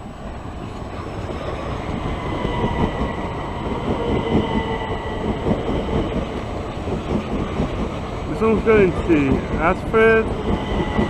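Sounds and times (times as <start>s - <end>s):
train high-pitched whine: 0.0s - 11.0s
train wheels rumbling: 0.0s - 11.0s.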